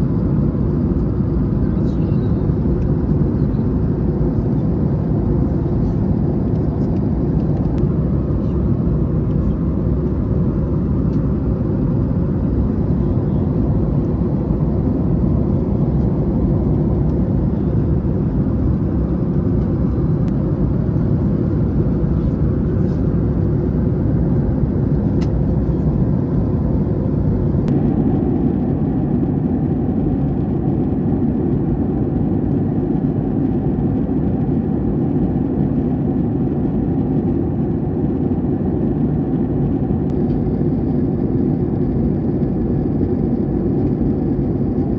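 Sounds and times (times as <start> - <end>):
aircraft engine drone: 0.0 - 44.9
airflow along fuselage: 0.0 - 44.9.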